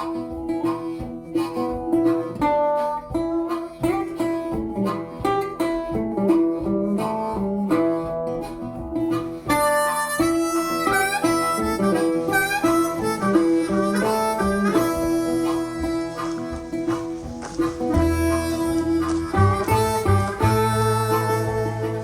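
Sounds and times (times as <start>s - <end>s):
acoustic guitar picking: 0.0s - 22.0s
harmonica: 0.0s - 22.0s.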